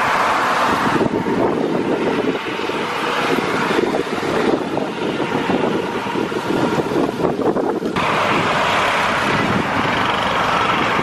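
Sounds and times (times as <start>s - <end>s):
jet engines roaring: 0.0s - 11.0s
wind buffeting microphone: 0.0s - 11.0s.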